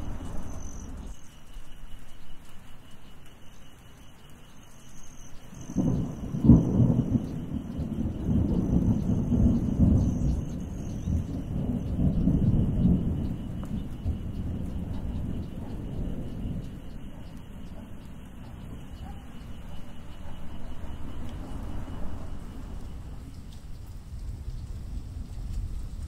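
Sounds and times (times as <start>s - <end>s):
thunder rumbling and cracking: 0.0s - 1.2s, 5.5s - 26.0s.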